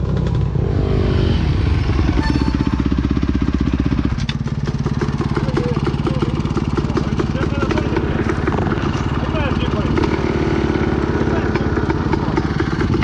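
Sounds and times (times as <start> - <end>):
motocross bike engine running: 0.0 - 13.0.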